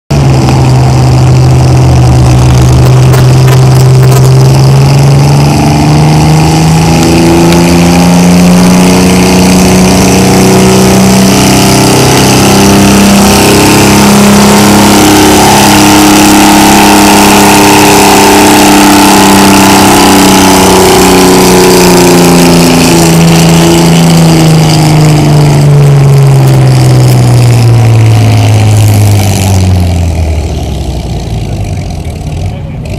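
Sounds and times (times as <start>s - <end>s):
tractor engine under full load: 0.1s - 32.9s.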